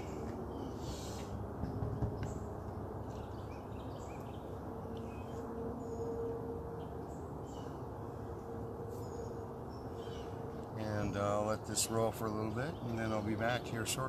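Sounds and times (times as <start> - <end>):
steady background hum: 0.0 - 14.0
wild birds chirping: 0.0 - 14.0.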